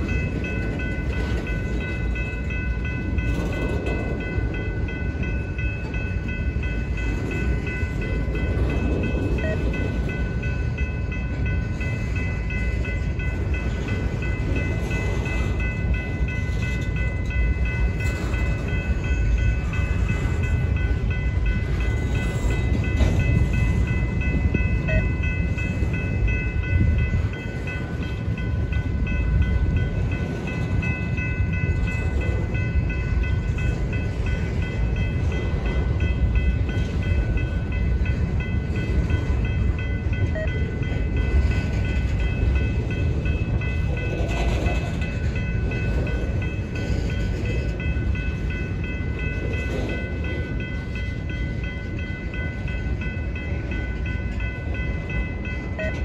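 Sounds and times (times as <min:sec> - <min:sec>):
high ringing tones: 0:00.0 - 0:56.0
steel wheels rumbling on rail: 0:00.0 - 0:56.0.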